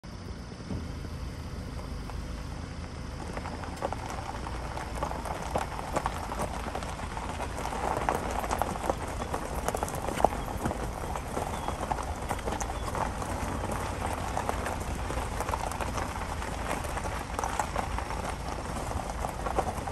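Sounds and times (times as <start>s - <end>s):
footsteps crunching on gravel: 1.6s - 19.9s.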